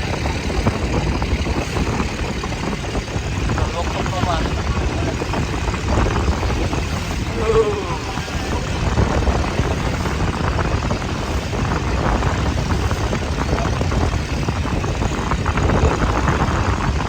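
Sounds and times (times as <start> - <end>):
boat engine running: 0.0 - 17.0
constant rushing noise: 0.0 - 17.0.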